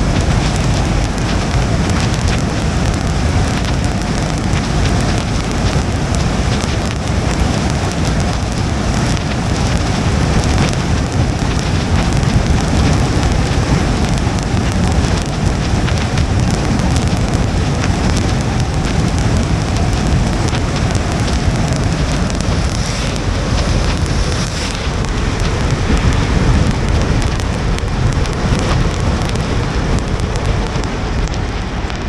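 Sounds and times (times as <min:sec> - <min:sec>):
rain pattering on a car: 0:00.0 - 0:32.0
tyres rumbling on wet road: 0:00.0 - 0:32.0.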